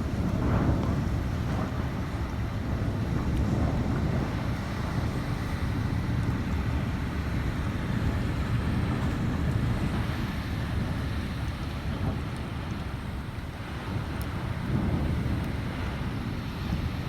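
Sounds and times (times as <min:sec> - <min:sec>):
strong wind blowing: 0:00.0 - 0:17.0
wind buffeting microphone: 0:00.0 - 0:17.0.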